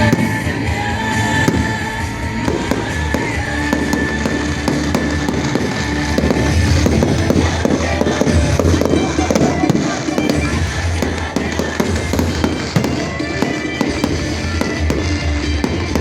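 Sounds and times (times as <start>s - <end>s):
fireworks bursting and crackling: 0.0s - 16.0s
music playing: 0.0s - 16.0s.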